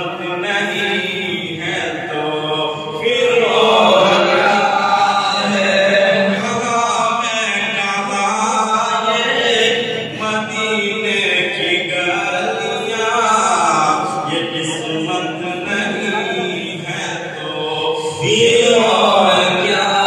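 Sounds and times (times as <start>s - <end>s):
man singing through loudspeaker: 0.0s - 20.0s.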